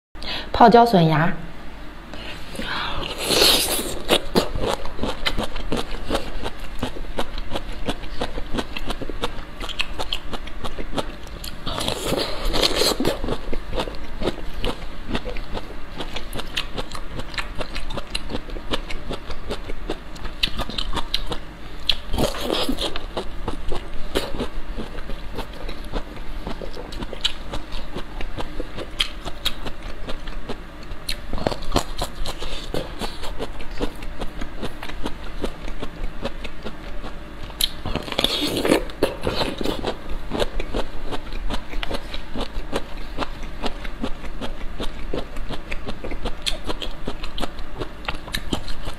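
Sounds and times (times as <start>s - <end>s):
crunchy chewing: 3.0s - 48.9s.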